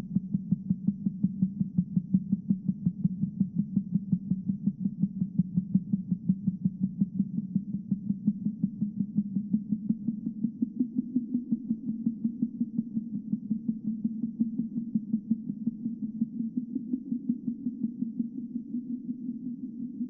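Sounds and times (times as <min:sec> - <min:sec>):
low pulsing hum: 0:00.0 - 0:20.0.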